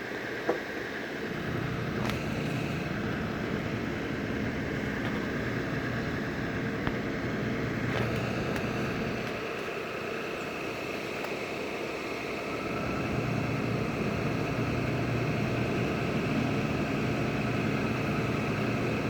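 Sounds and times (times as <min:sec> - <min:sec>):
vehicle engine running: 0:01.2 - 0:19.0.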